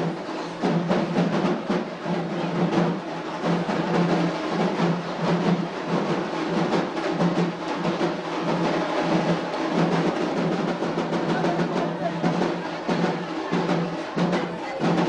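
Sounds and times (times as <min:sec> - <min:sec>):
crowd voices: 0:00.0 - 0:15.0
procession drums beating: 0:00.0 - 0:15.0.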